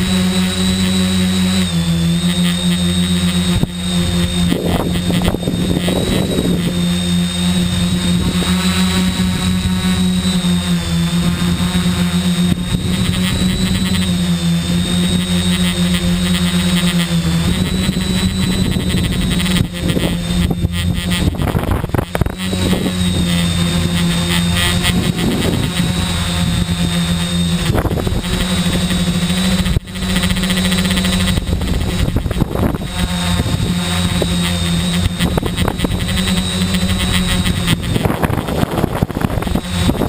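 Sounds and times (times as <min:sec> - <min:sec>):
drone motors buzzing: 0:00.0 - 0:40.0
wind noise: 0:00.0 - 0:40.0.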